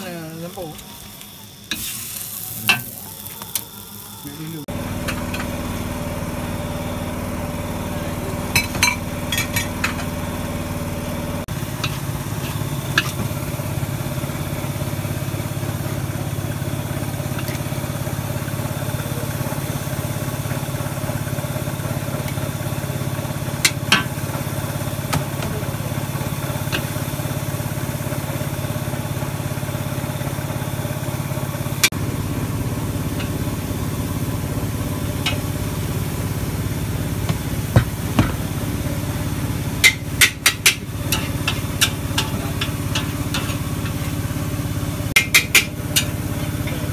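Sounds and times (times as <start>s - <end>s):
small engine idling: 3.1s - 46.9s.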